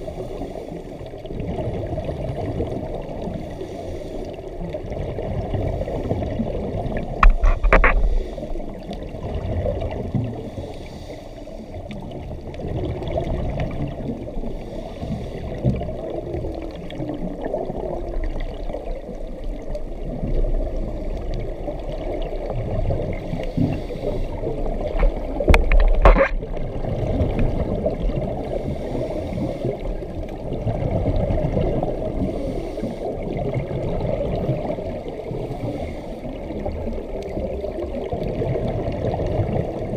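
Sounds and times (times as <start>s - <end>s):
muffled underwater noise: 0.0s - 39.9s.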